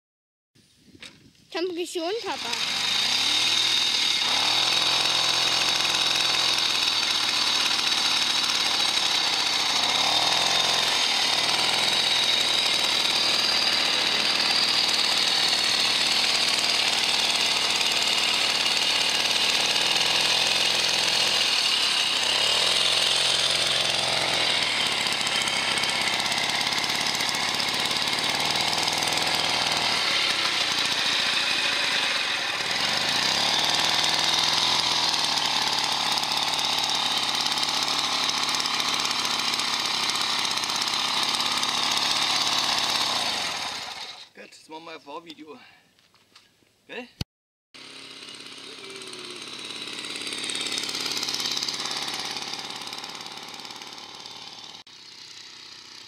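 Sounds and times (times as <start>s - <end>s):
moped engine running: 2.1s - 44.3s, 47.8s - 56.0s.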